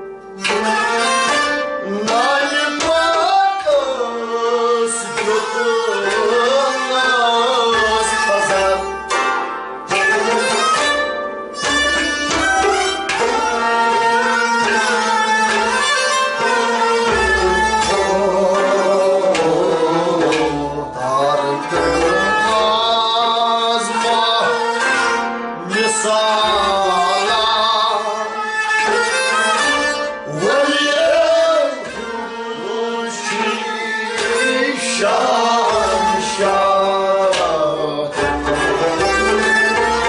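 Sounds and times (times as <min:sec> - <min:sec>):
bowed sarangi: 0:00.0 - 0:40.0
plucked lute: 0:00.0 - 0:40.0
man singing: 0:00.4 - 0:09.1, 0:09.9 - 0:11.0, 0:11.6 - 0:15.6, 0:16.4 - 0:40.0.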